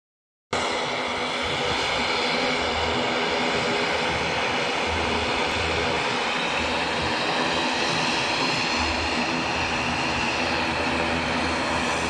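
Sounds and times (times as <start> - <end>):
high engine whine: 0.6 - 12.0
turboprop engine drone: 0.6 - 12.0.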